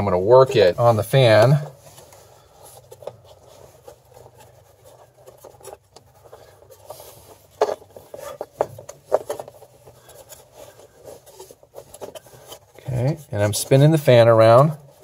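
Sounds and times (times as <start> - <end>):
rubber belt rubbing and scraping: 0.0 - 15.0.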